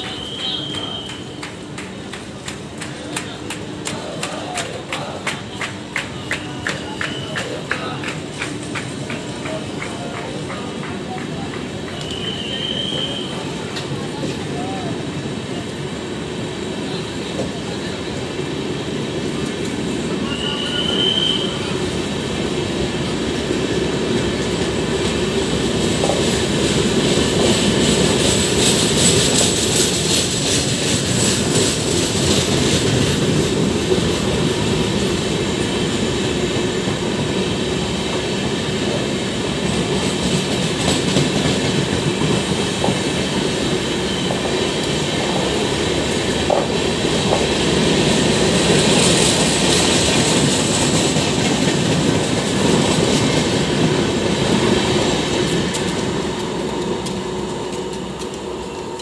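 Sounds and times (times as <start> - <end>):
train wheels clacking over rail joints: 0.0 - 14.4, 22.6 - 59.0.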